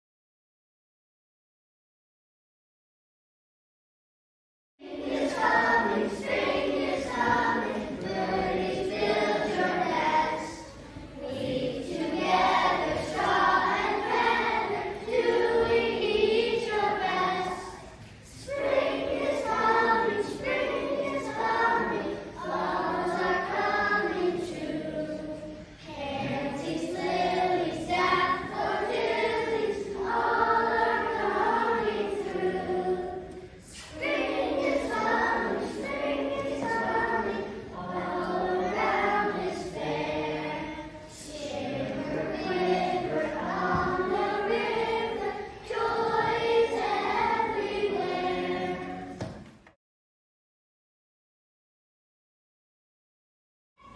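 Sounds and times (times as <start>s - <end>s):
children singing: 4.8s - 49.4s.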